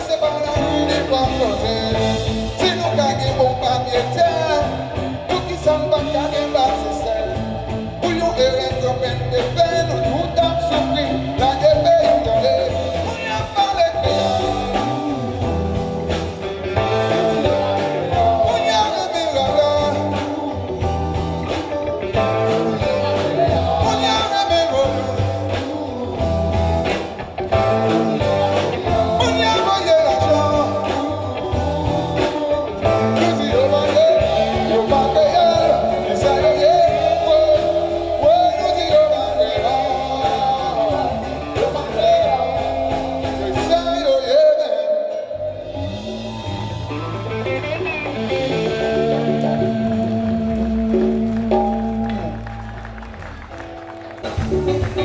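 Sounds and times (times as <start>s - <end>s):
live band music: 0.0s - 55.0s.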